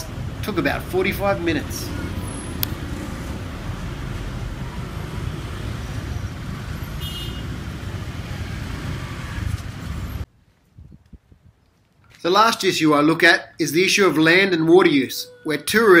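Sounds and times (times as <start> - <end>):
traffic engine and tyre rumble: 0.0 - 14.8.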